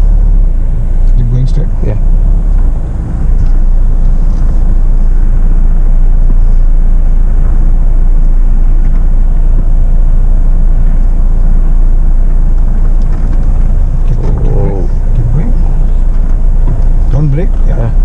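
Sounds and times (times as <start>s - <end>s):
vehicle driving low rumble: 0.0s - 18.0s.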